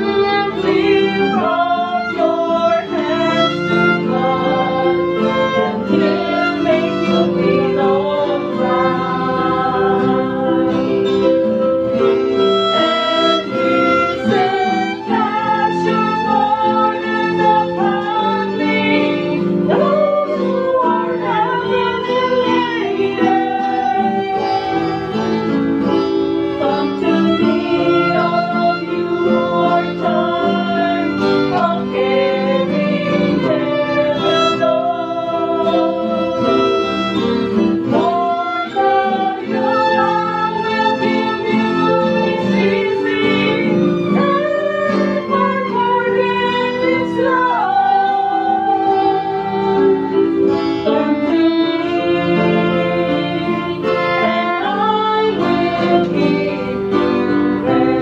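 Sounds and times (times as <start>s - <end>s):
violin melody played with bow: 0.0s - 58.0s.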